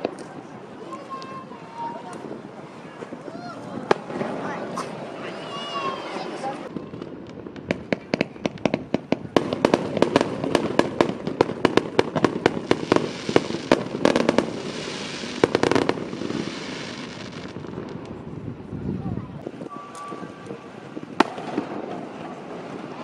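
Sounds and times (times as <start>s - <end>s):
crackling fireworks stars: 0.0s - 23.0s
fireworks bangs: 0.0s - 23.0s.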